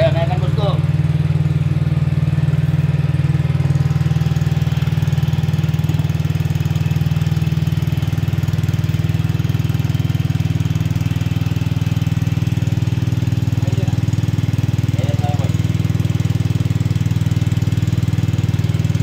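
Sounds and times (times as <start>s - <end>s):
extractor machine humming: 0.0s - 19.0s.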